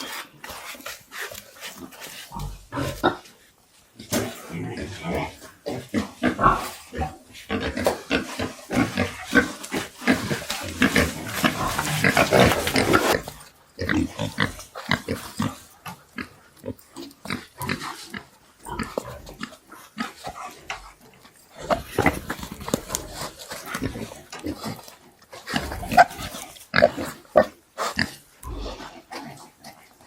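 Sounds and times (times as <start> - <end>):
pigs grunting: 4.1 - 30.0.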